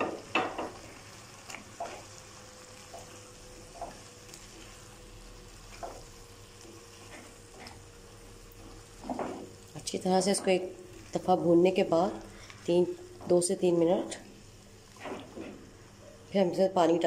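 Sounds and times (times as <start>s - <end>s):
faint frying sizzle: 0.0s - 17.0s.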